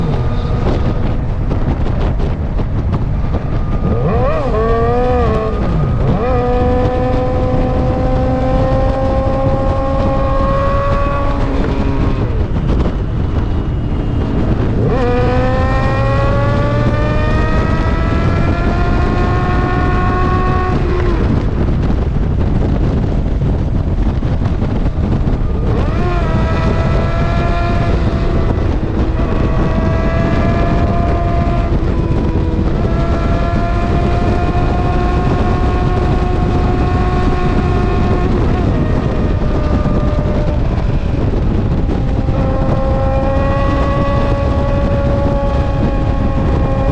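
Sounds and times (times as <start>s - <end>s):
motorcycle engine revving hard: 0.0s - 46.9s
wind and road noise: 0.0s - 46.9s.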